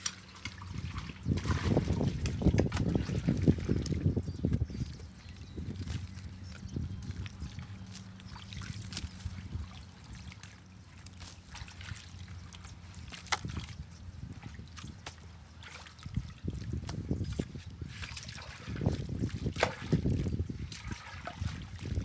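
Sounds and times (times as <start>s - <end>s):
clicks and splashes: 0.0s - 22.0s
water trickling from pipe: 0.0s - 22.0s.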